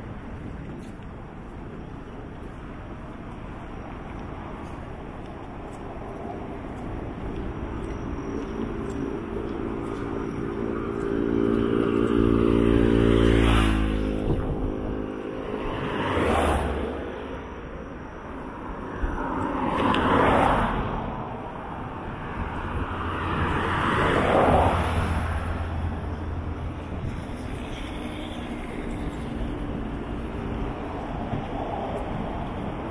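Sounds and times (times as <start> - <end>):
engine humming: 0.0 - 32.9
vehicles whooshing by: 0.0 - 32.9.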